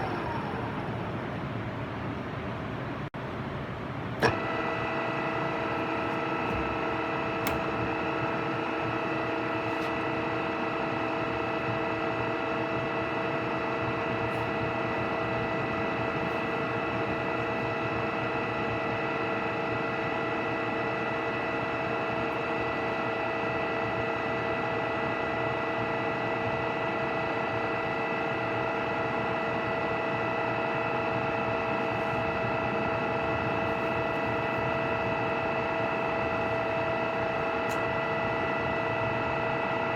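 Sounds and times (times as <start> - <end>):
drilling machine whirring and whining: 0.0 - 2.4, 4.1 - 39.9.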